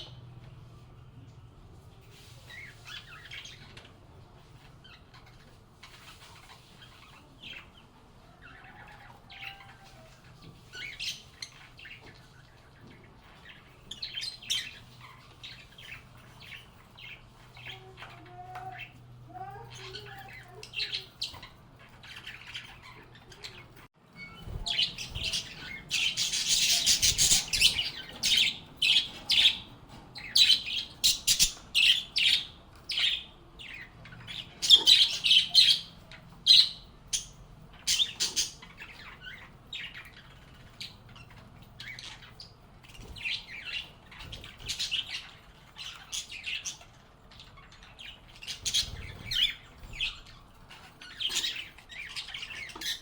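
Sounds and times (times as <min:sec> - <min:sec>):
lovebirds chirping and squawking: 0:00.0 - 0:00.8, 0:02.0 - 0:53.0.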